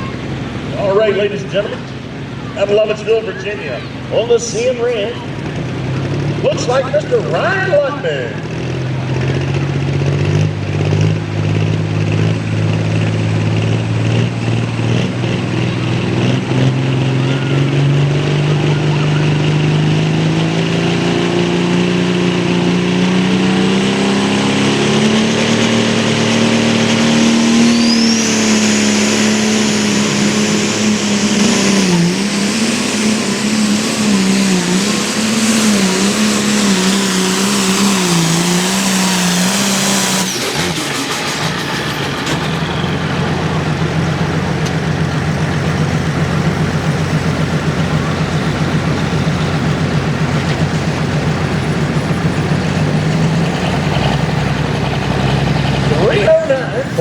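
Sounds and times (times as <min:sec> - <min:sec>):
tractor diesel engine running: 0:00.0 - 0:57.0
turbocharger whine: 0:00.0 - 0:57.0.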